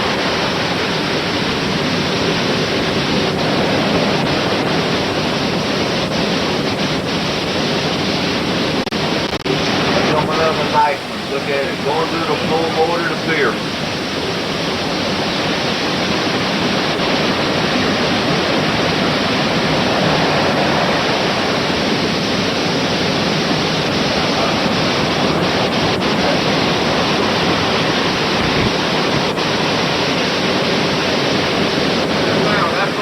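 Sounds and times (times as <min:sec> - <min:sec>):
heavy surf roaring: 0:00.0 - 0:33.0
strong wind hitting microphone: 0:00.0 - 0:33.0.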